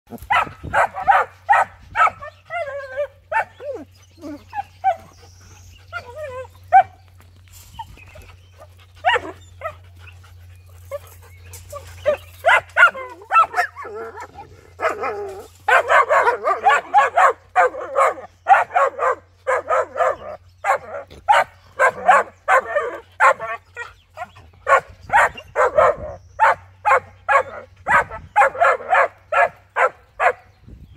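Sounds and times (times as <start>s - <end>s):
dogs barking: 0.1s - 7.2s, 7.8s - 30.6s.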